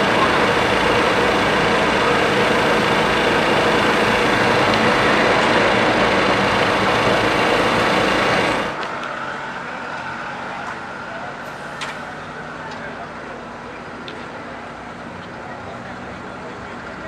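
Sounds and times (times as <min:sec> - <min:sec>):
loud engine running: 0:00.0 - 0:17.0.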